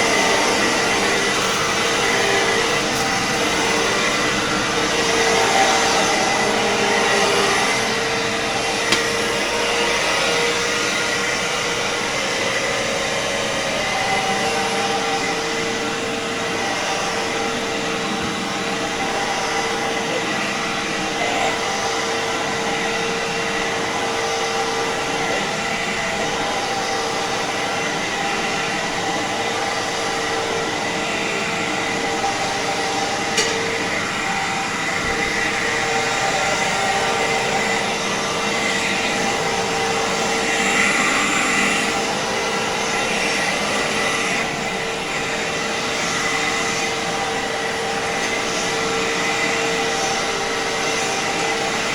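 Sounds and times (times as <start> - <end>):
vacuum cleaner running over carpet: 0.0 - 51.9.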